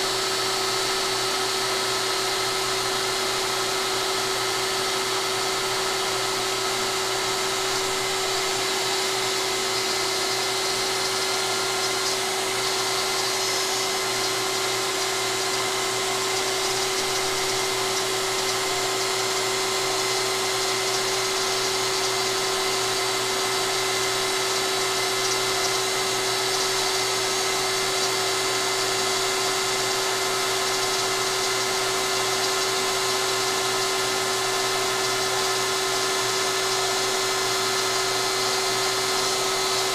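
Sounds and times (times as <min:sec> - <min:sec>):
router high-pitched whine: 0:00.0 - 0:39.9.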